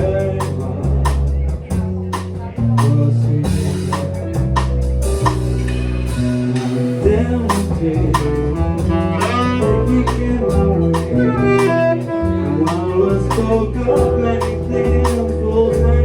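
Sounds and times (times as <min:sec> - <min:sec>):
bass and drums: 0:00.0 - 0:16.0
plucked jazz guitar: 0:00.0 - 0:16.0.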